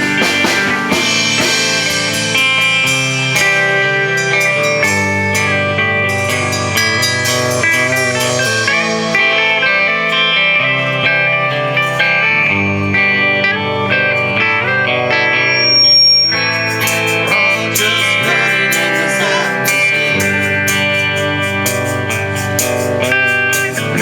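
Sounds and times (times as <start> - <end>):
guitar: 0.0 - 24.0
live band playing: 0.0 - 24.0.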